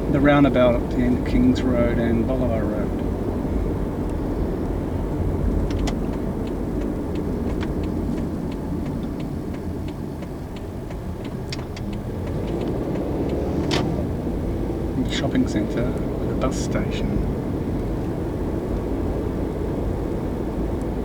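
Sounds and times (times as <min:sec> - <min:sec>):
car road and engine rumble: 0:00.0 - 0:21.0
turn signal ticking: 0:00.0 - 0:21.0.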